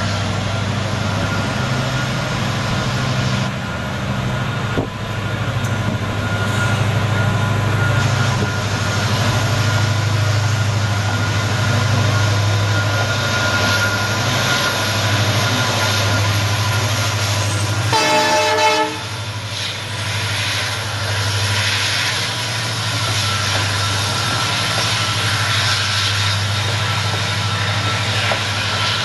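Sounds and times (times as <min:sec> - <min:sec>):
locomotive engine droning: 0:00.0 - 0:29.0.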